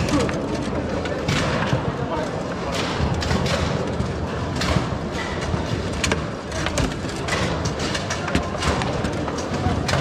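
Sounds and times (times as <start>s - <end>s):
murmur of voices: 0.0s - 10.0s.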